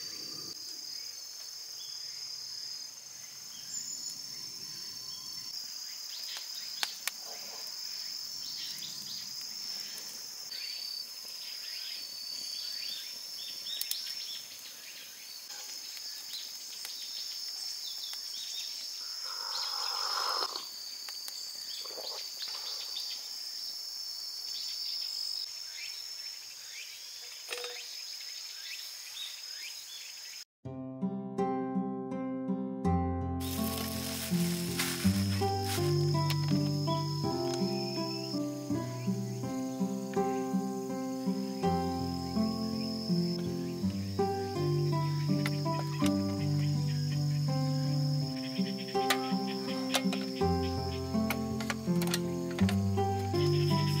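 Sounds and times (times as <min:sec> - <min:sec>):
insects trilling: 0:00.0 - 0:30.4, 0:33.4 - 0:54.0.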